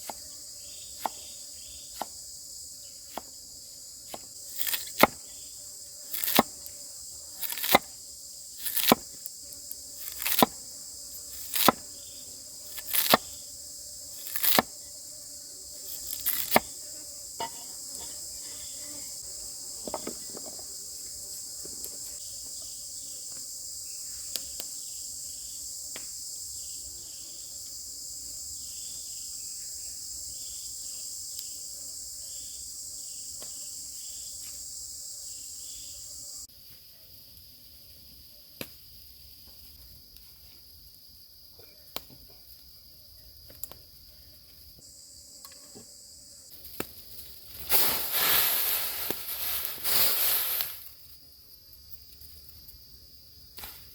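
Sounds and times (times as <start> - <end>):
insects chirring chorus: 0.0 - 53.9.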